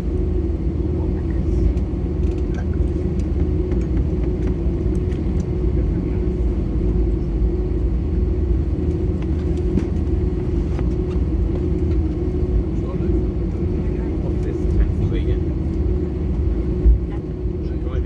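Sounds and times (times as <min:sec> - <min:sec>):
aircraft cabin engine rumble: 0:00.0 - 0:18.0
constant hum: 0:00.0 - 0:18.0.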